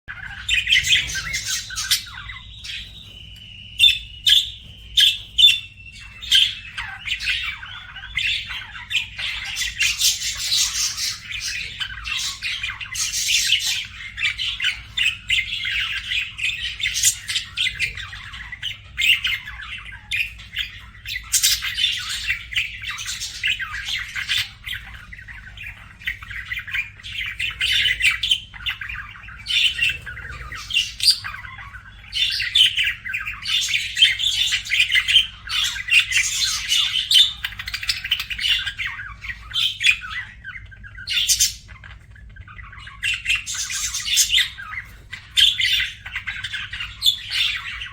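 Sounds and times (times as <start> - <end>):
budgerigars chirping: 0.1 - 47.9.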